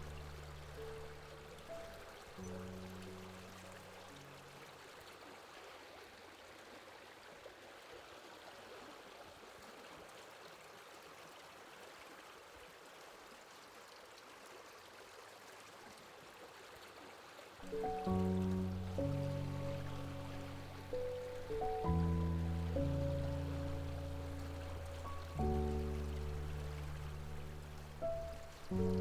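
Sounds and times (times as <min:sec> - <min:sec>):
flowing water rushing: 0:00.0 - 0:29.0.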